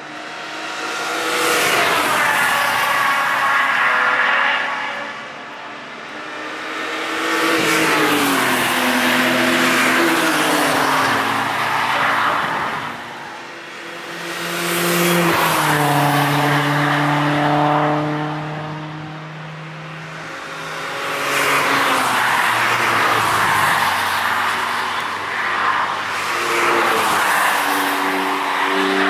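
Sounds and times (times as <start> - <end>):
race cars passing: 0.0 - 29.0.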